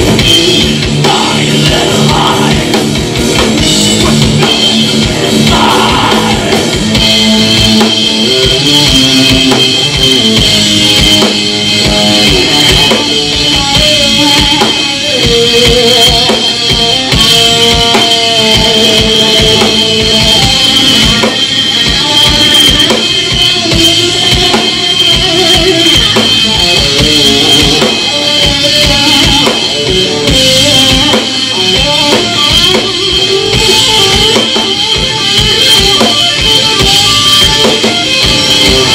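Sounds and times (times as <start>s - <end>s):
drum kit beat: 0.0s - 38.9s
live rock band playing: 0.0s - 38.9s.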